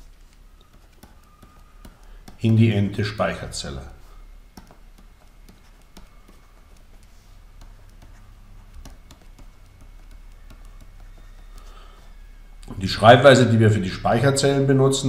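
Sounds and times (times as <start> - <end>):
stylus tapping and scratching: 0.0 - 12.8
low steady hum: 0.0 - 15.0.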